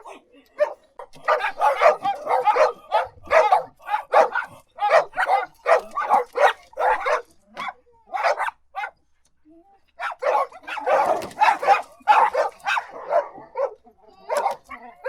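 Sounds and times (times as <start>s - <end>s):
dog barking: 0.6s - 9.0s, 10.0s - 15.0s.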